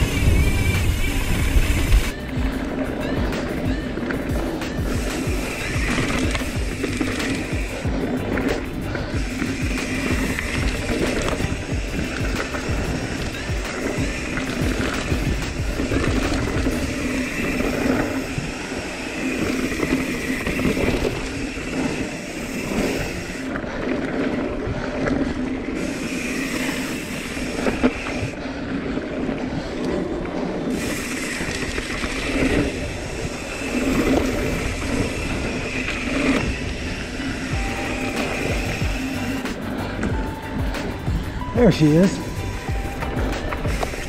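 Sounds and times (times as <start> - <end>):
bike rattling over bumps: 0.0 - 44.0
bike tyres scraping over dirt: 0.0 - 44.0
wind on microphone: 0.0 - 44.0.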